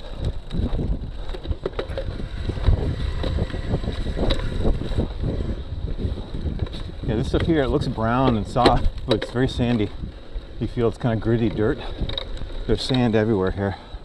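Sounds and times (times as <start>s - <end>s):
bike knocks and rattles: 0.0s - 13.4s
bike tyres rumbling on dirt: 0.0s - 14.0s
wind noise on microphone: 0.0s - 14.0s.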